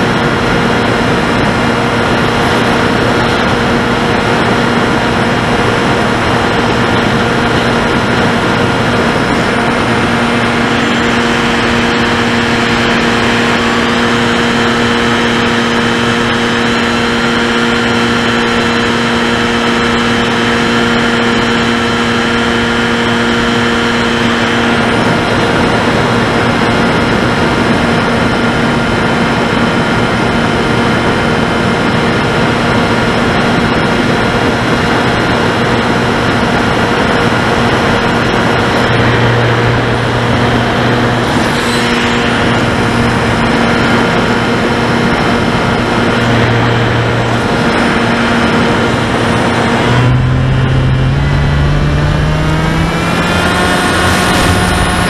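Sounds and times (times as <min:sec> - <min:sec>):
electric motor and propeller: 0:00.0 - 0:55.0
wind rush: 0:00.0 - 0:55.0.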